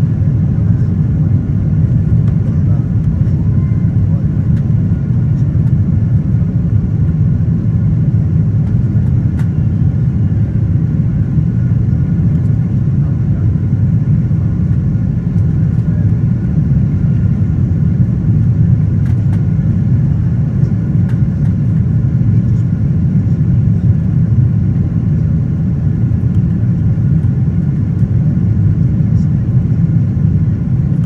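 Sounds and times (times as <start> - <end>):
jet engines and airflow rumbling: 0.0 - 31.0.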